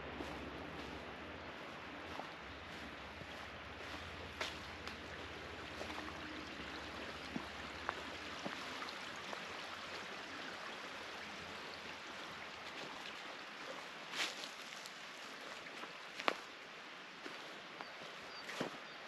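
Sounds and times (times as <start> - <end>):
water rushing along canal: 0.0 - 17.7.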